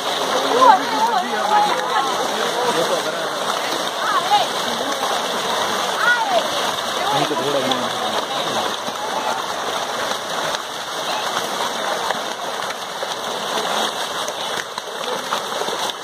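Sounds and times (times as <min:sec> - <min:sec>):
fish splashing at water surface: 0:00.0 - 0:16.0.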